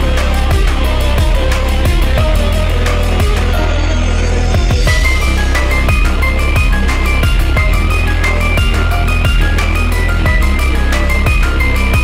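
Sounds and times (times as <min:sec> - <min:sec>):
deep kick drums dropping in pitch: 0:00.0 - 0:12.0
electronic music with heavy bass: 0:00.0 - 0:12.0.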